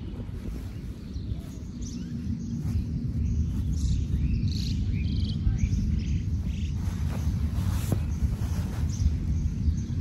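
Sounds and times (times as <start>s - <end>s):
birds chirping: 0.0s - 10.0s
wind rumbling on microphone: 0.0s - 10.0s.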